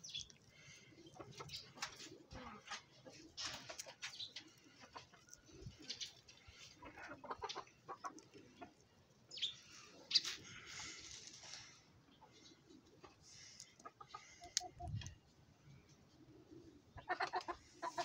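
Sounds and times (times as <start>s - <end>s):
birds calling: 0.0s - 18.0s
chickens clucking: 0.0s - 18.0s.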